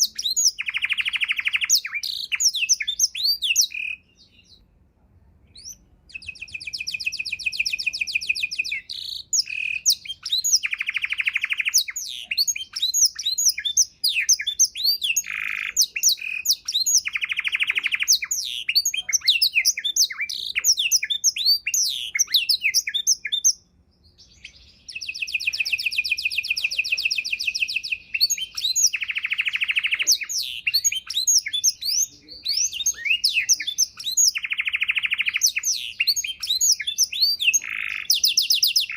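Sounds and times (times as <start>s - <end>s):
canary singing trills: 0.0s - 4.7s, 5.5s - 38.9s.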